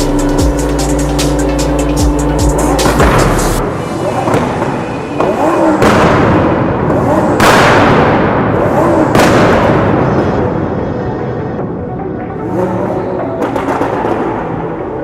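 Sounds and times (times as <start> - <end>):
exhaust bangs and crackles: 0.0 - 10.9, 13.4 - 15.0.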